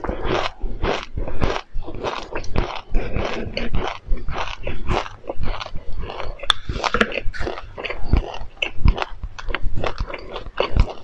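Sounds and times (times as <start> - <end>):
chewing crunchy seeds: 0.0 - 11.0.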